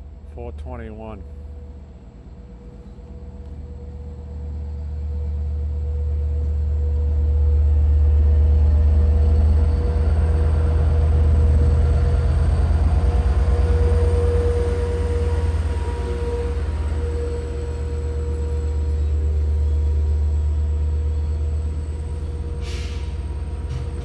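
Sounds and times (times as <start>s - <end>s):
diesel locomotive engine rumble: 0.0s - 24.0s
steady whine: 2.6s - 24.0s.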